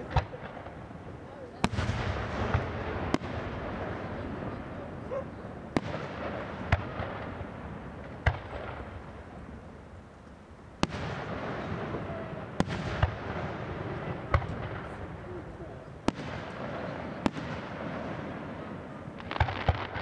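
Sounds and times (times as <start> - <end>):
firework bangs: 0.0 - 9.7, 10.8 - 20.0.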